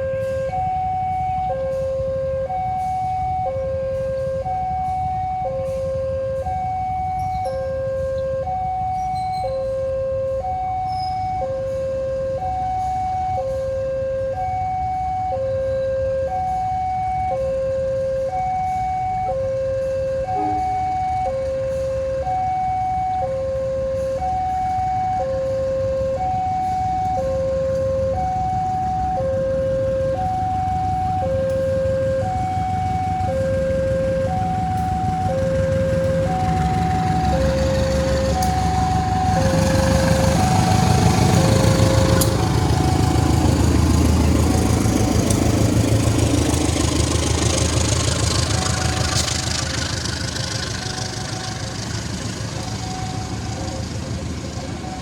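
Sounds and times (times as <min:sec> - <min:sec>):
electronic two-tone warning alarm: 0:00.0 - 0:55.0
low rumble of train or traffic: 0:00.0 - 0:55.0.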